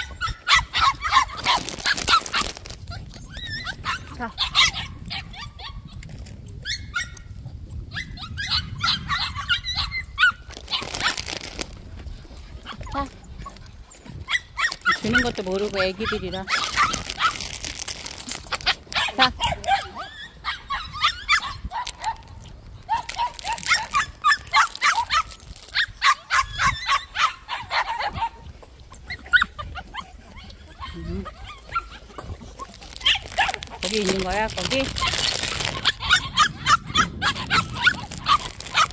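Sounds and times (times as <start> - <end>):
puppies yipping and whining: 0.0 - 38.9.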